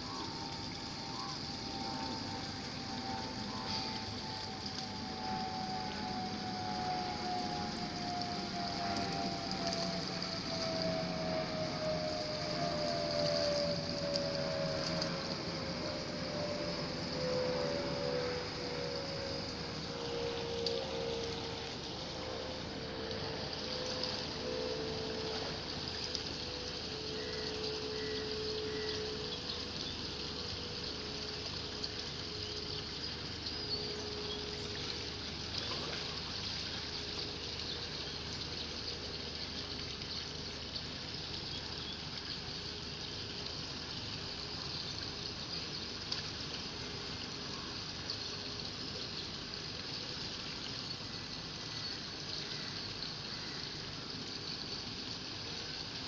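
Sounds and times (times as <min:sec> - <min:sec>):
faint machine hum: 0:00.0 - 0:56.0
water rushing and trickling: 0:00.0 - 0:56.0.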